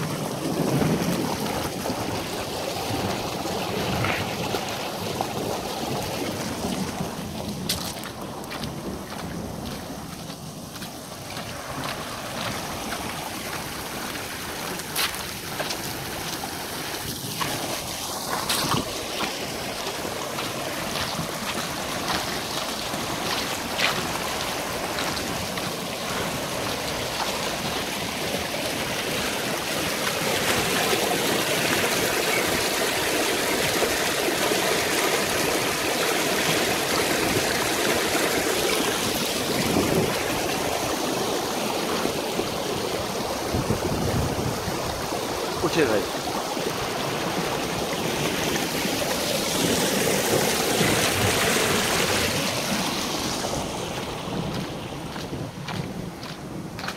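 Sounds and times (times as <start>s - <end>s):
water rushing down a ditch: 0.0s - 56.9s.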